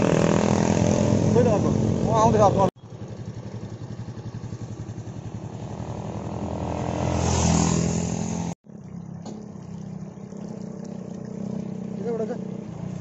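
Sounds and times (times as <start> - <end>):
motorcycle passing by: 0.0 - 13.0
steady motorcycle engine hum: 0.0 - 13.0.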